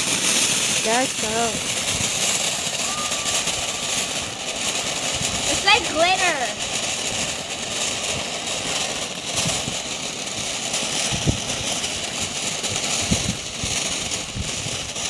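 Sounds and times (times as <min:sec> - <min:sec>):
firework spraying sparks: 0:00.0 - 0:15.0.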